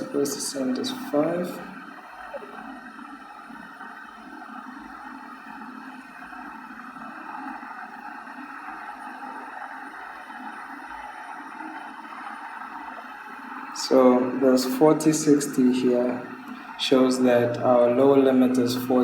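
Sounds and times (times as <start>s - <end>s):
electric water heater hissing: 0.0s - 19.0s.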